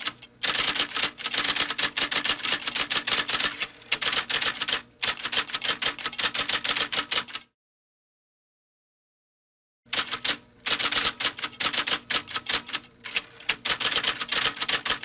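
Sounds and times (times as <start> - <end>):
electric typewriter typing: 0.0 - 7.4, 9.9 - 15.0.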